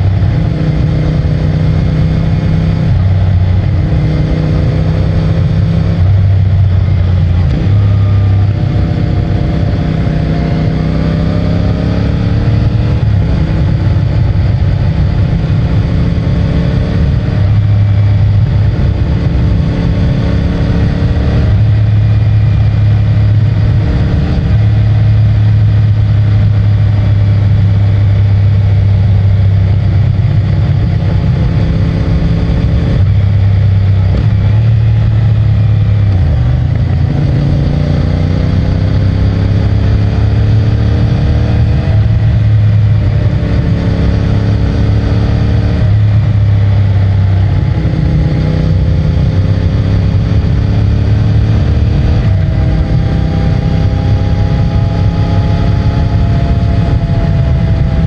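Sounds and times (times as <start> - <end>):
motorcycle engine riding: 0.0 - 58.0
wind and road noise: 0.0 - 58.0.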